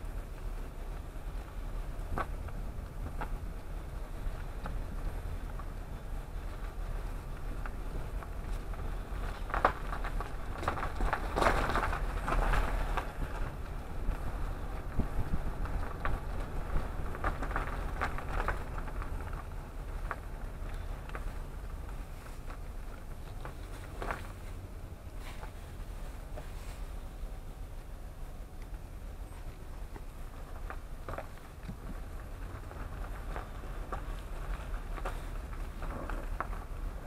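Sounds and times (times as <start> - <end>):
car rolling slowly: 0.0 - 37.0
crackles and clicks: 0.0 - 37.0.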